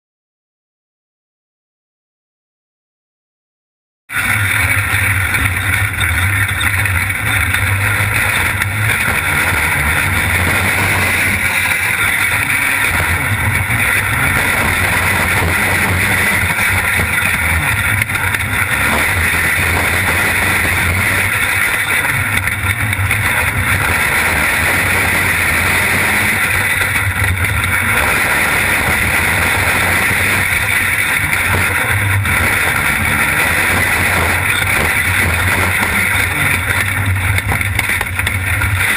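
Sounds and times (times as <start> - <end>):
kart engine running hard: 4.1 - 38.9.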